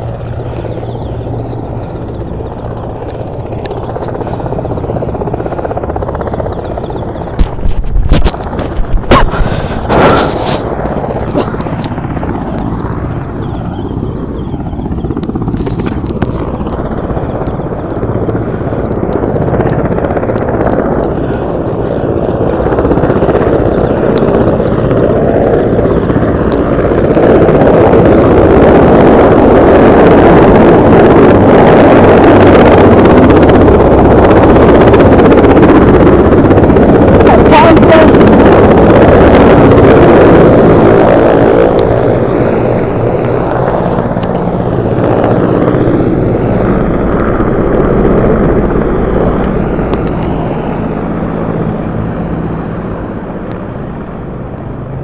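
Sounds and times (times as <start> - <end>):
helicopter rotor and engine: 0.0 - 55.0.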